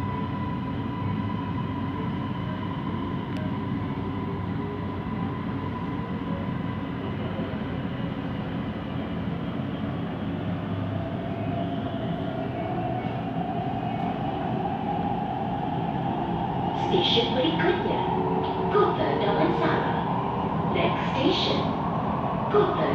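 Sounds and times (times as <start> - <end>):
train wheels rumbling on track: 0.0 - 22.9.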